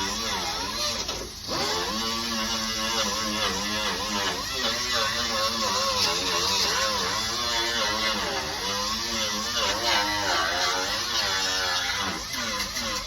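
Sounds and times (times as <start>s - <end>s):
handheld grinder stripping paint: 0.0s - 13.0s.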